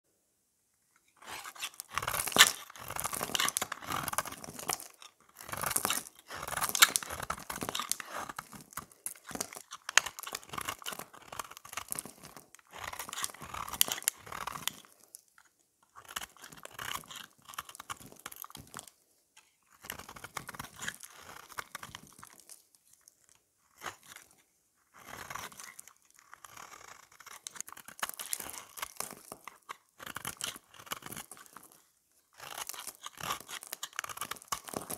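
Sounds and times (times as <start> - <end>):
knife shaving soap crunching: 1.1 - 19.0, 19.6 - 34.9.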